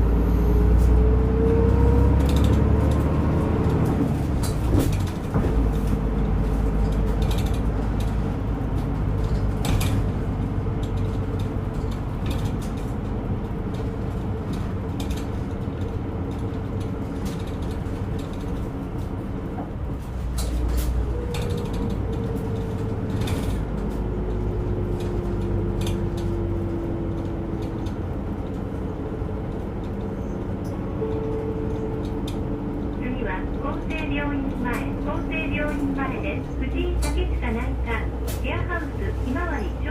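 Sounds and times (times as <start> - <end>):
bus engine droning: 0.0 - 39.9
rattles and creaks: 0.6 - 39.1.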